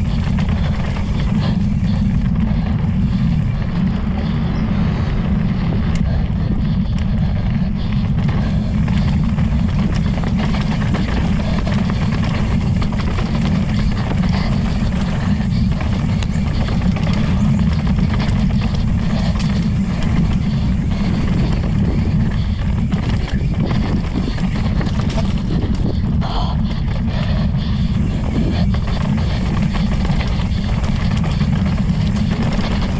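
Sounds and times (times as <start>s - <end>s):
bike rattles and knocks: 0.0s - 32.9s
bike tyre noise: 0.0s - 32.9s
wind buffeting microphone: 0.0s - 32.9s.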